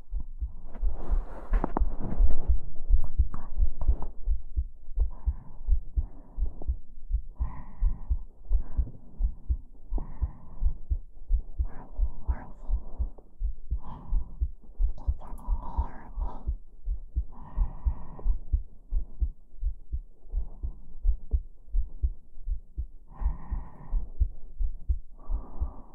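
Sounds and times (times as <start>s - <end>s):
heartbeat thumps: 0.0s - 25.9s
soft breathy sounds: 0.0s - 25.9s.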